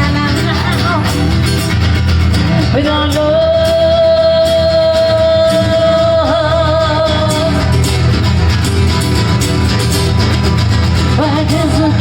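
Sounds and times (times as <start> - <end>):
live band accompaniment: 0.0 - 12.0.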